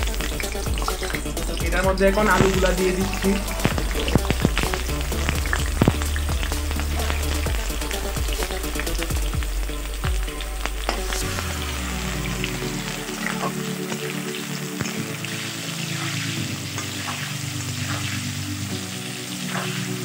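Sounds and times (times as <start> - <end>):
potatoes sizzling in hot oil: 0.0 - 20.0.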